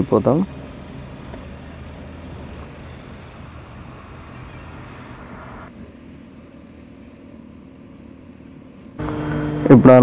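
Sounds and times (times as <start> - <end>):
diesel engine drone: 0.0 - 10.0
tyre and road hiss: 0.8 - 10.0.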